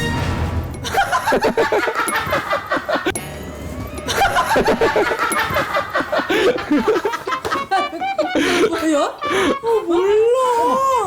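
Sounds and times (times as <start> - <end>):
people laughing: 0.8 - 3.2, 3.8 - 11.0.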